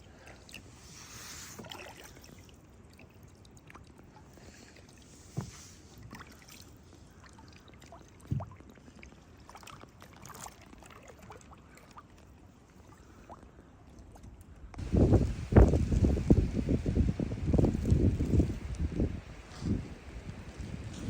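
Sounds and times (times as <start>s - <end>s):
paddle drips and splashes: 0.0s - 21.0s.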